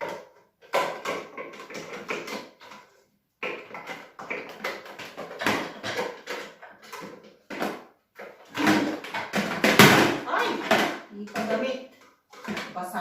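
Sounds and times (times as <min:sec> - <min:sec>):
plastic parts clicking and knocking: 0:00.0 - 0:13.0.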